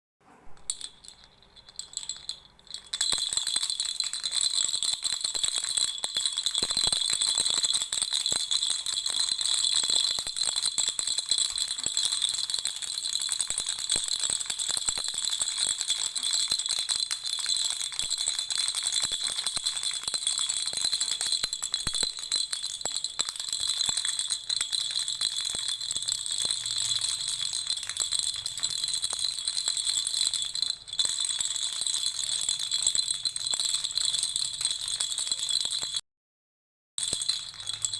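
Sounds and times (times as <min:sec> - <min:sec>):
baby rattle shaking: 0:00.6 - 0:36.0, 0:37.0 - 0:37.9.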